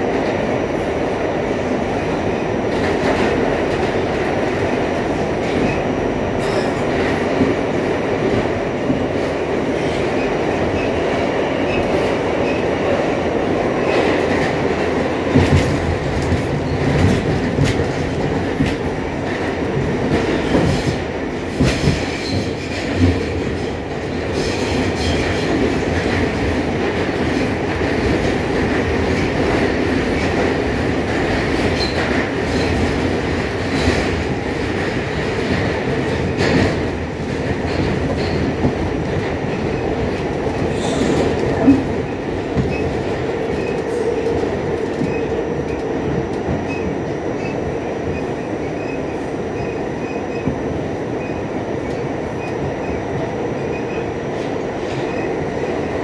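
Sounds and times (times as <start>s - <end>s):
subway car wheels rumbling on rails: 0.0s - 56.0s.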